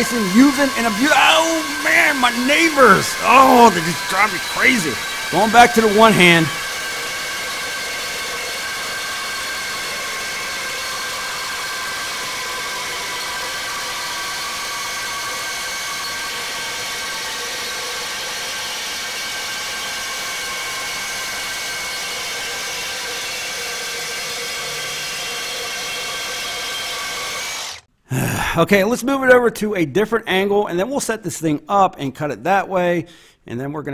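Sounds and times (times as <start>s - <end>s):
reciprocating saw cutting steel pipe: 0.0s - 27.9s.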